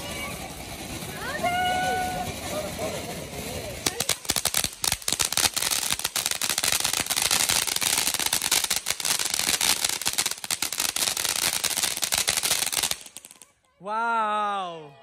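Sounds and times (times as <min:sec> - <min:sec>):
firecrackers rattling bangs: 0:00.0 - 0:13.5.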